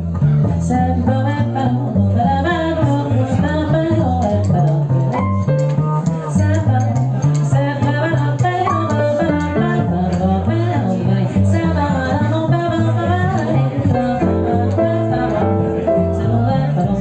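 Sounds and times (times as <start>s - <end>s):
walking bass line: 0.0s - 17.0s.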